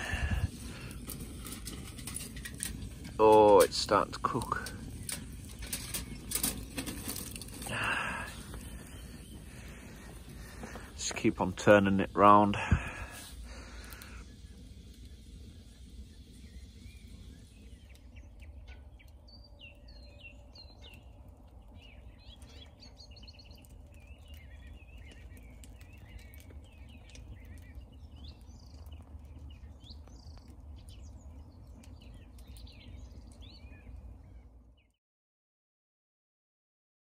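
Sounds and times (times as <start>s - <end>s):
campfire crackling: 0.0s - 34.9s
small birds chirping: 0.0s - 35.0s.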